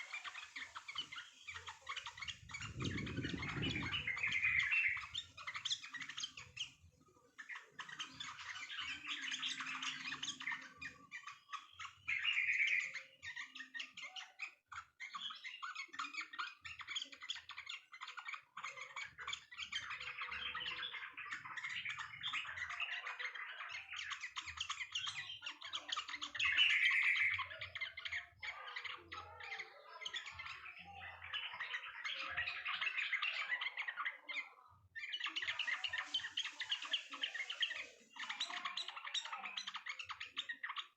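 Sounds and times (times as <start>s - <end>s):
bulbuls chattering and chirping: 0.0s - 40.9s.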